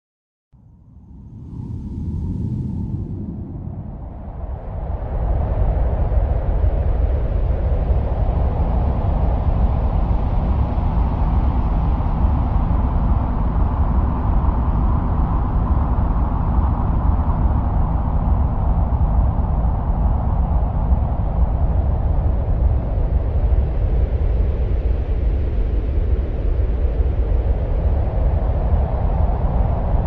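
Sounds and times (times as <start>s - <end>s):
deep wind-like rumble: 0.6s - 30.0s.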